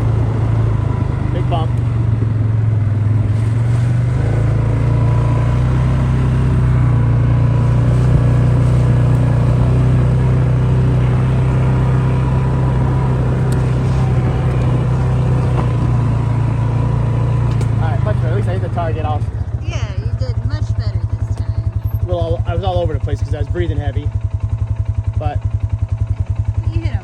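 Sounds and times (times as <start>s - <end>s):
engine humming steadily: 0.0s - 27.0s.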